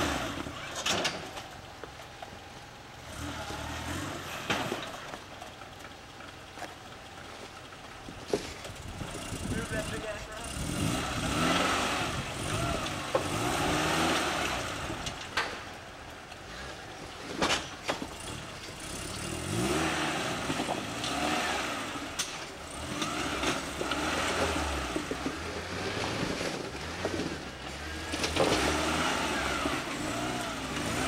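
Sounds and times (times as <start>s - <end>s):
off-road engine revving: 0.0s - 31.0s.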